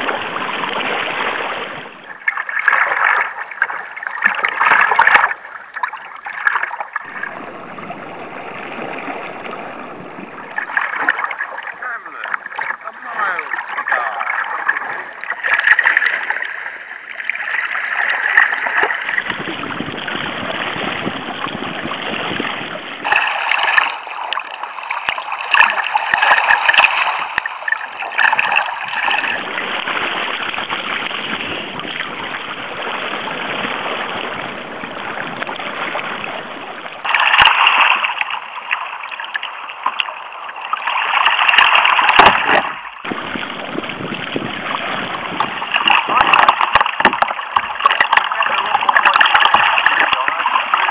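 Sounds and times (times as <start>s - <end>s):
water splashing against kayak hull: 0.0s - 50.9s.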